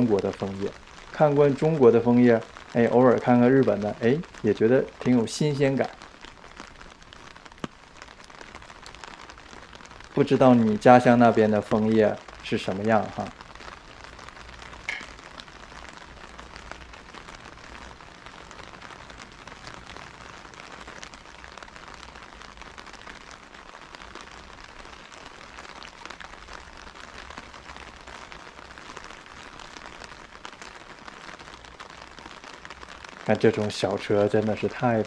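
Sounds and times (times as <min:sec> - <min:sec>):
light rain on a wet street: 0:00.0 - 0:35.0.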